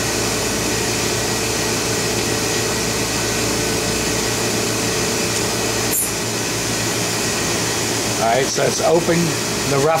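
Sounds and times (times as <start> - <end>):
machine pumps and fans humming: 0.0 - 10.0.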